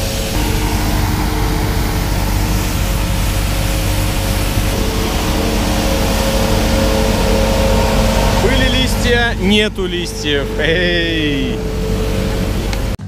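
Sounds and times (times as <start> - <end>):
steady humming tones: 0.0 - 13.0
street sweeper machine drone: 0.0 - 13.0.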